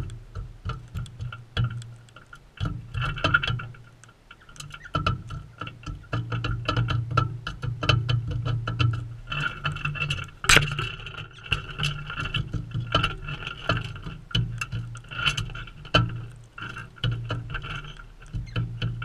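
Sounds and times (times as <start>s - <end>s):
birds pecking and cracking seed: 0.0s - 19.0s.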